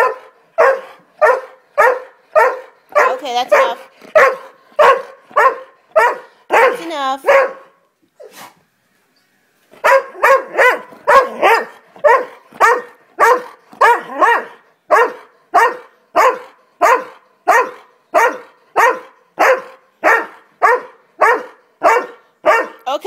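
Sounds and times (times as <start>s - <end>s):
dog barking loudly: 0.0s - 7.8s, 9.8s - 22.9s.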